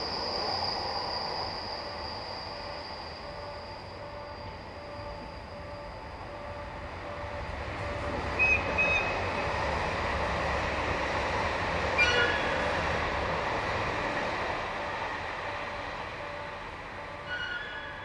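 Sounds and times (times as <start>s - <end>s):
electric train rolling past: 0.0s - 18.0s.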